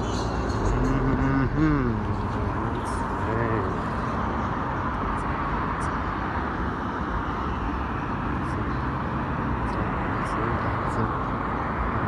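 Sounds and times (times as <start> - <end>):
highway traffic roar: 0.0 - 12.0.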